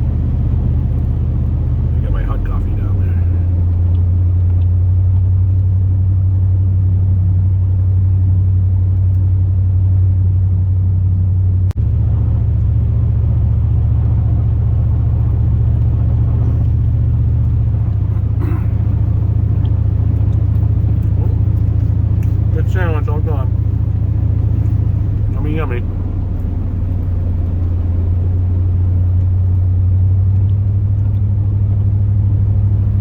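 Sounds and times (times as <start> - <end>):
truck engine droning in cab: 0.0 - 33.0.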